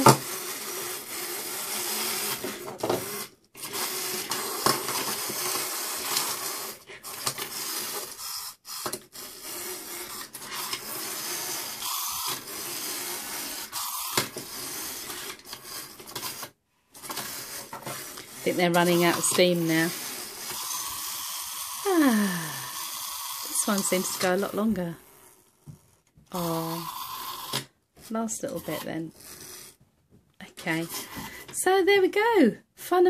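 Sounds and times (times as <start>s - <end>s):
clockwork toy motors whirring: 0.0s - 29.8s, 30.5s - 31.5s.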